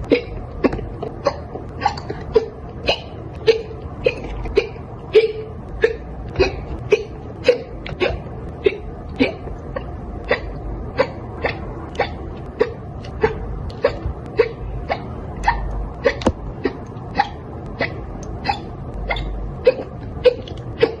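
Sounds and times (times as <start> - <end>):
girl hiccuping: 0.1 - 21.0.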